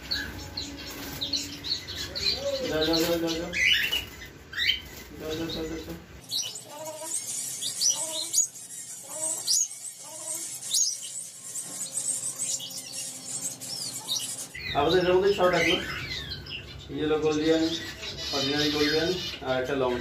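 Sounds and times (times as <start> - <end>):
finches chirping: 0.0 - 20.0.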